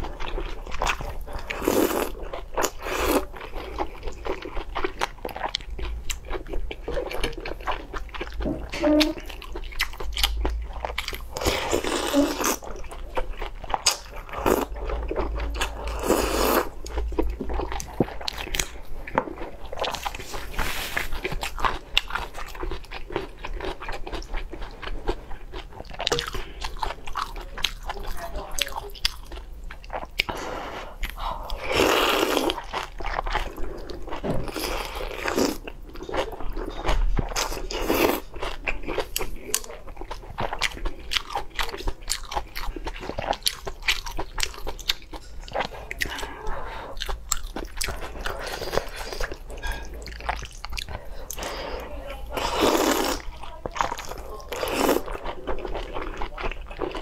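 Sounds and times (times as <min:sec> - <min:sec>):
chewing crunches: 0:00.0 - 0:30.4, 0:31.0 - 0:46.3, 0:47.0 - 0:57.0.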